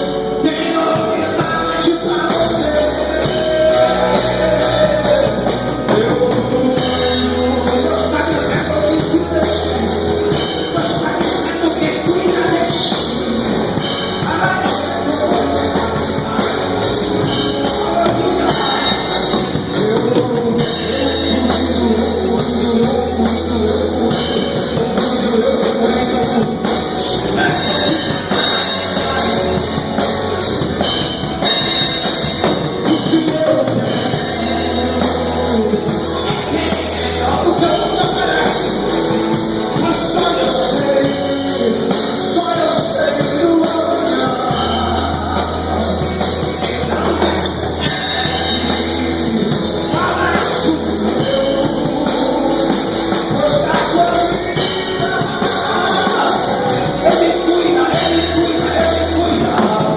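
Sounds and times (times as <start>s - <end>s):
drum kit: 0.0s - 59.9s
person singing: 0.0s - 59.9s.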